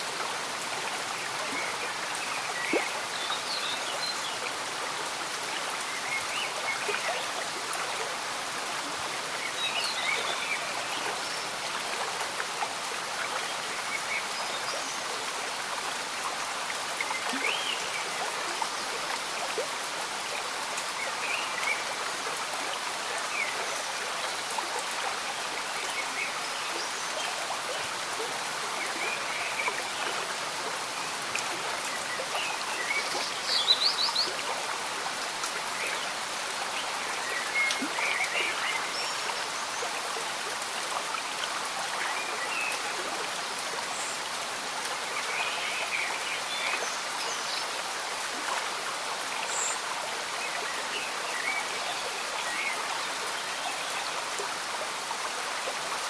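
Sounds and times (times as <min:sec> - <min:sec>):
gentle rain: 0:00.0 - 0:56.0.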